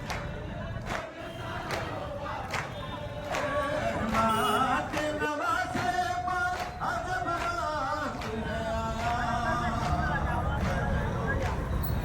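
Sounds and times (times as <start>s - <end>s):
men singing a lament: 0.0s - 11.8s.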